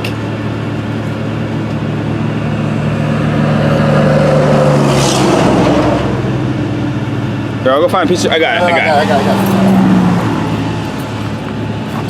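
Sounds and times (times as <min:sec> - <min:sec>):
steady engine hum: 0:00.0 - 0:12.0
vehicle passing by: 0:02.2 - 0:12.0.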